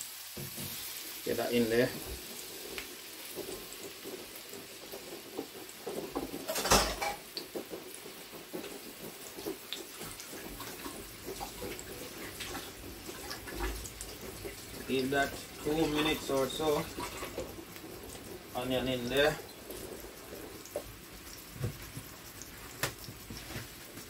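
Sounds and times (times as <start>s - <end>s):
oil popping and crackling: 0.0s - 24.0s
onion sizzling in hot oil: 0.0s - 24.0s.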